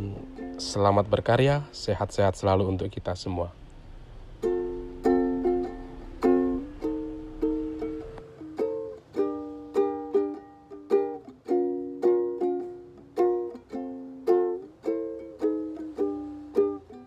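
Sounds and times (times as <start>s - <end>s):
plucked string music: 0.0s - 1.9s, 4.0s - 17.0s.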